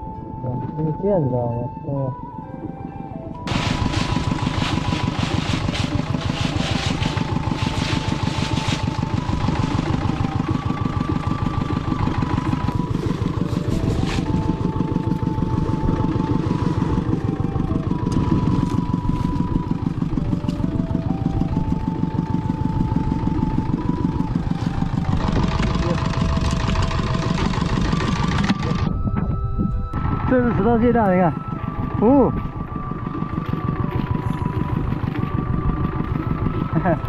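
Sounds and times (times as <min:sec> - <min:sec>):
boat engine chugging: 0:00.0 - 0:37.0
simple melody of held tones: 0:00.0 - 0:37.0.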